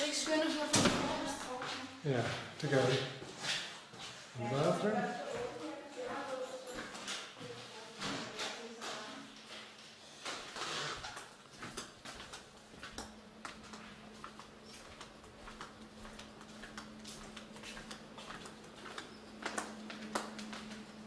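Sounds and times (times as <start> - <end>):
footsteps on hard floor: 0.2 - 21.0.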